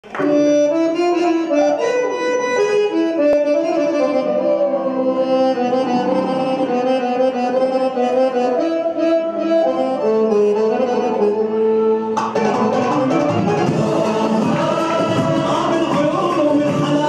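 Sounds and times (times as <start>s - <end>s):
belly dance music: 0.0s - 17.0s.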